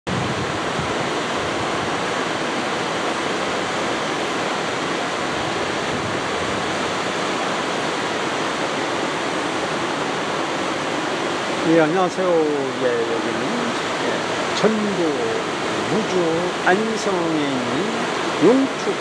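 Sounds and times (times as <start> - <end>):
waterfall rushing: 0.1 - 19.0.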